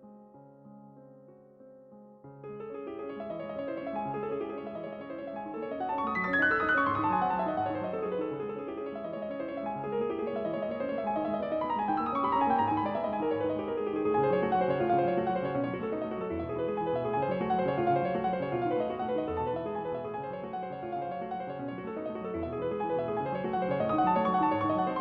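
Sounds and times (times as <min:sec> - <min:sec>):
piano music: 0:02.2 - 0:25.0.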